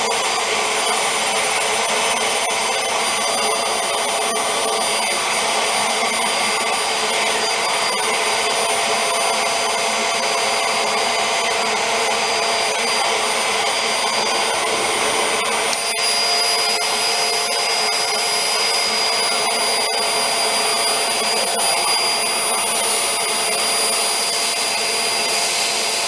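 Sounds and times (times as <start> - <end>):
upright vacuum running: 0.0 - 26.0.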